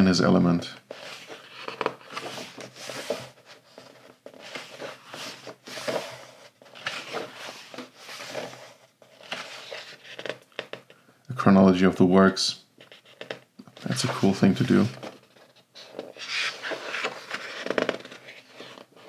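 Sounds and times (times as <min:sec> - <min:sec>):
book pages turning: 0:00.9 - 0:10.9, 0:12.8 - 0:19.0.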